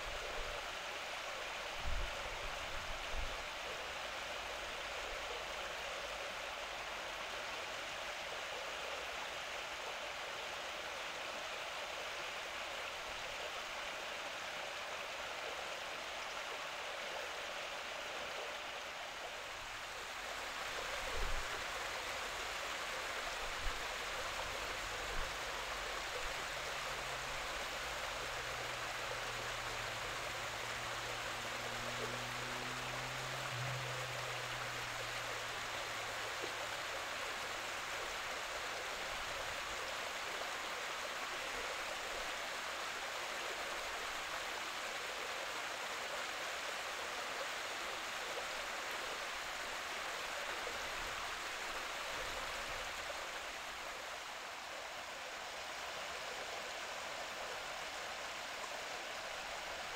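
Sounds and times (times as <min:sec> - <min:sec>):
stream splashing down cascade: 0:00.0 - 0:59.9.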